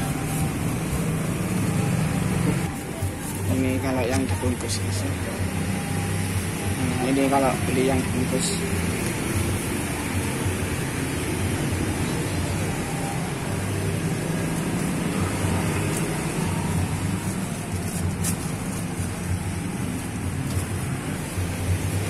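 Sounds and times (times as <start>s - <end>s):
low drone of road traffic: 0.0s - 22.0s.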